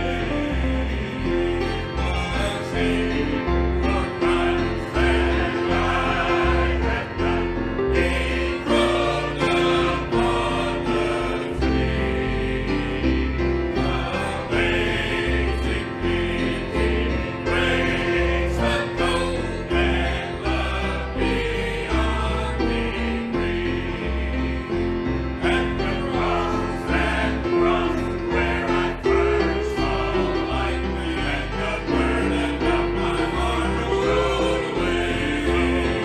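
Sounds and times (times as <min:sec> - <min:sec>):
voices singing a hymn: 0:00.0 - 0:36.0.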